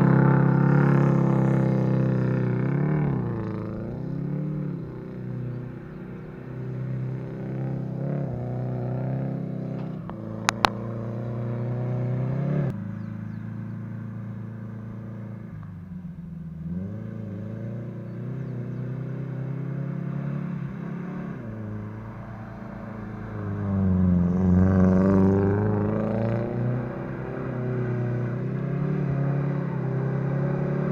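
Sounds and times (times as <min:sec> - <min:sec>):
car engine with loud exhaust: 0:00.0 - 0:30.9.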